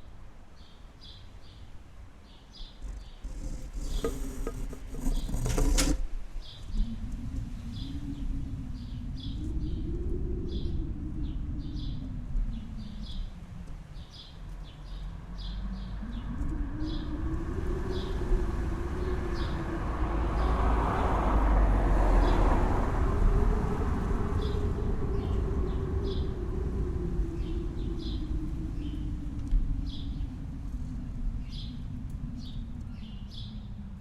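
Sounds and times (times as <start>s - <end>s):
small birds chirping: 0.6s - 19.7s, 24.4s - 33.9s
low rumble: 2.6s - 34.0s.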